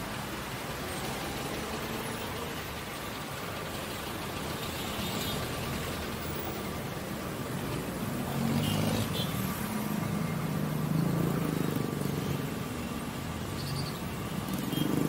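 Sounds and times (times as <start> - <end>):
road noise rush: 0.0 - 15.0
vehicle engines running: 0.0 - 15.0.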